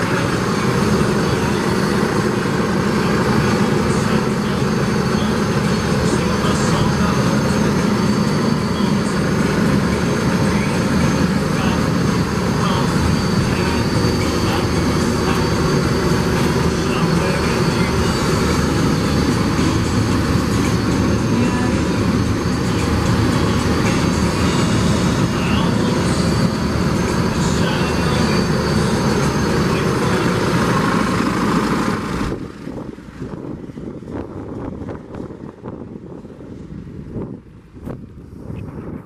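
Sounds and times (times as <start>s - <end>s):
tractor engine din: 0.0s - 39.0s.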